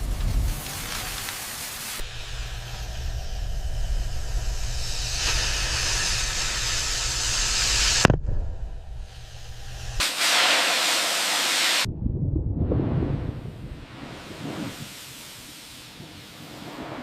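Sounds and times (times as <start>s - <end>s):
steady low rumble: 0.0s - 10.0s, 11.8s - 17.0s
hiss: 0.0s - 11.9s, 13.8s - 17.0s.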